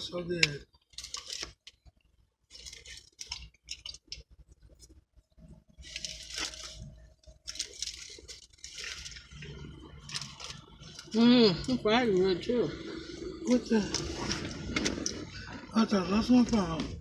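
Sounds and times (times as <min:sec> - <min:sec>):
person chewing food: 0:00.4 - 0:11.2, 0:12.7 - 0:15.7.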